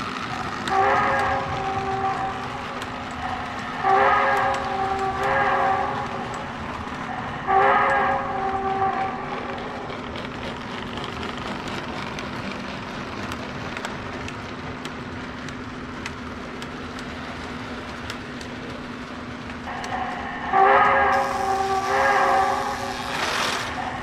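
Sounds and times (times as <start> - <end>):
sharp track clicks: 0.0 - 20.3
constant hum: 0.0 - 24.0
toy train running on track: 0.0 - 24.0.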